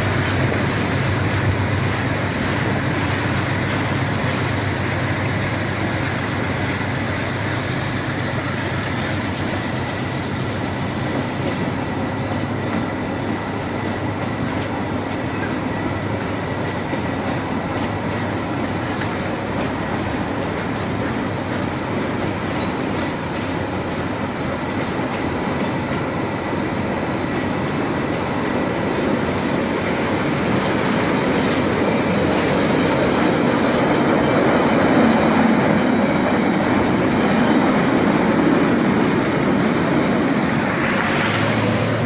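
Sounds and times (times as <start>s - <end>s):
freight wagons rolling on rails: 0.0s - 42.0s.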